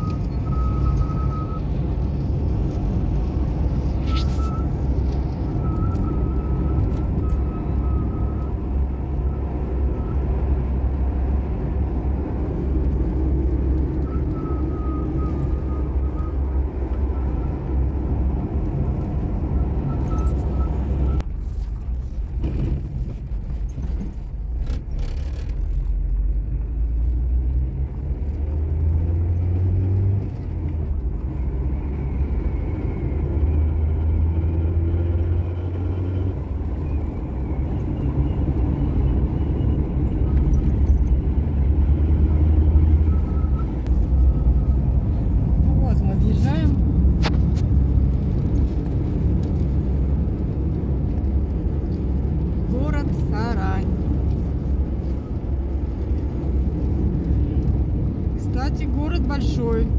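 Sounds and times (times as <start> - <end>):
road and engine rumble: 0.0 - 59.9.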